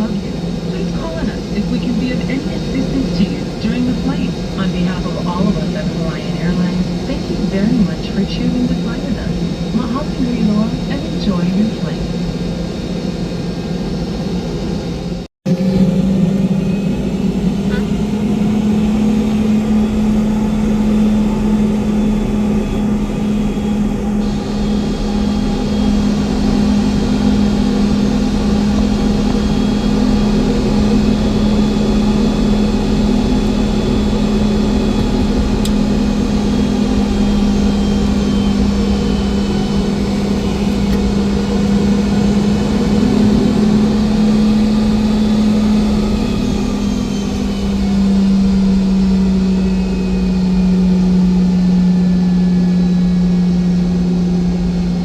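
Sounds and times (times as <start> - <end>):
aircraft engines humming in cabin: 0.0 - 55.0.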